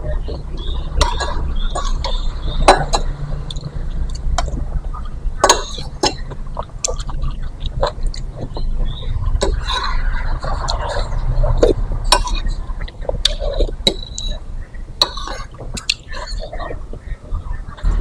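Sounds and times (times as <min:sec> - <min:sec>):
eating sounds: 0:00.0 - 0:18.0.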